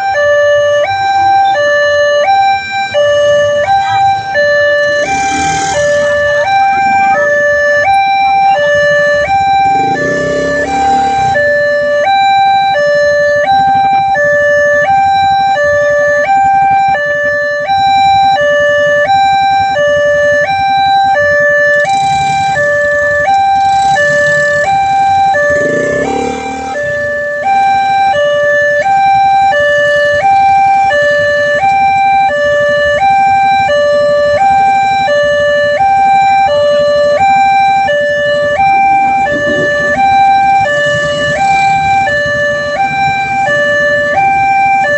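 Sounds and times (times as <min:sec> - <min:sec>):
level crossing two-tone alarm: 0:00.0 - 0:44.9.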